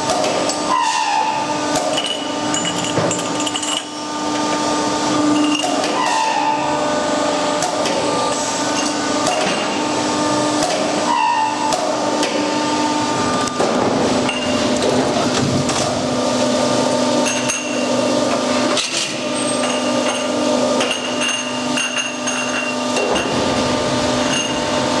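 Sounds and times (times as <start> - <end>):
factory machinery humming: 0.0 - 25.0.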